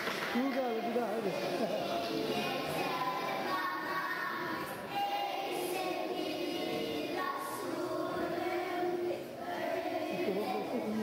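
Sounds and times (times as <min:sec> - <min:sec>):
voices singing together: 0:01.3 - 0:11.0.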